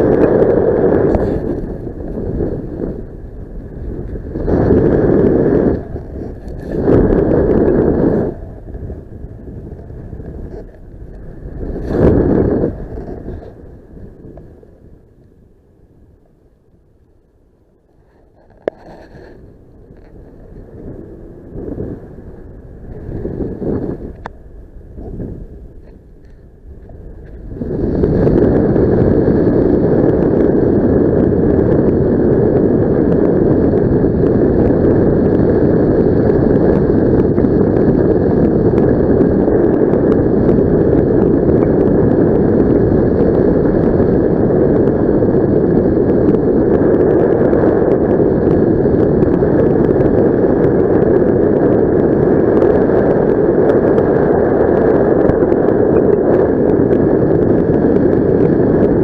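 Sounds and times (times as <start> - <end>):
rushing wind on microphone: 0.0 - 59.0.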